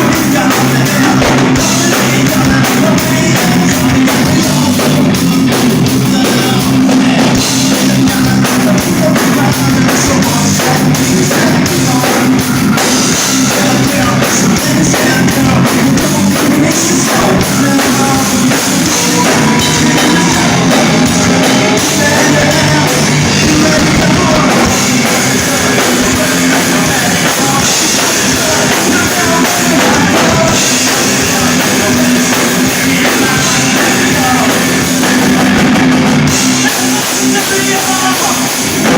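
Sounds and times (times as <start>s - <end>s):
drum kit: 0.0s - 38.9s
heavy electric guitars: 0.0s - 38.9s
person singing: 0.0s - 38.9s.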